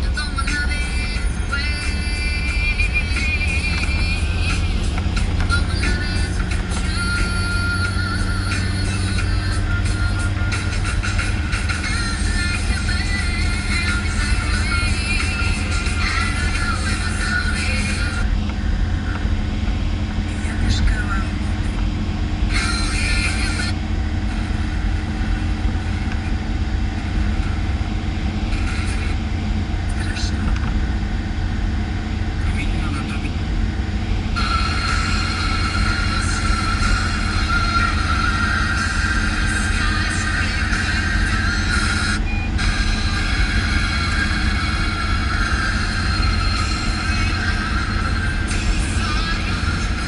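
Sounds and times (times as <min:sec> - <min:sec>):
road and engine rumble in van: 0:00.0 - 0:50.0.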